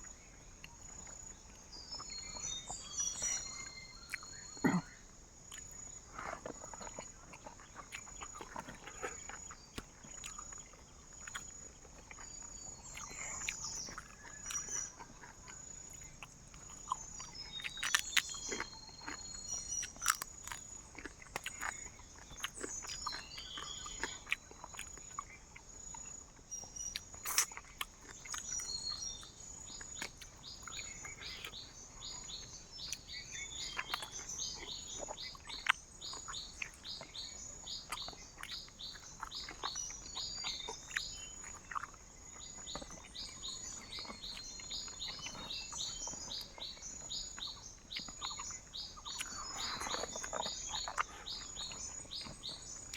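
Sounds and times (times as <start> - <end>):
birds chirping: 0.0 - 52.9
insects chirping: 0.0 - 52.9.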